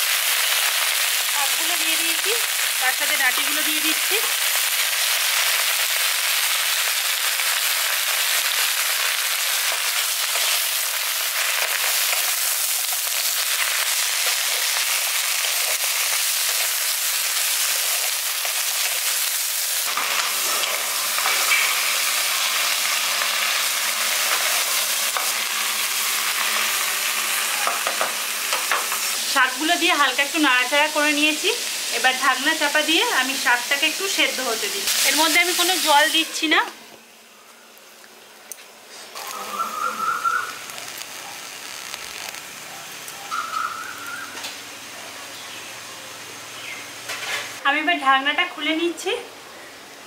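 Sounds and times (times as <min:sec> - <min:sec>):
leaves sizzling in hot oil: 0:00.0 - 0:50.0.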